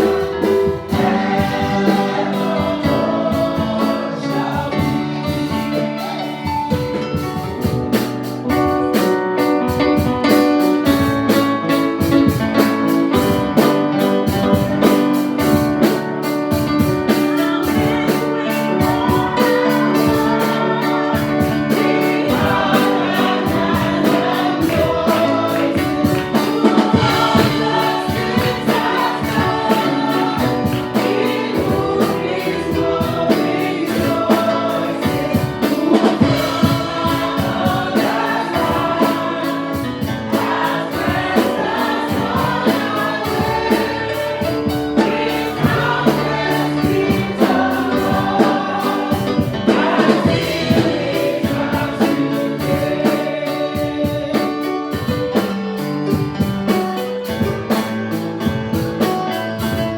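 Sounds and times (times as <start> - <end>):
band with drum kit: 0.0 - 59.9
choir and congregation singing: 0.0 - 59.9.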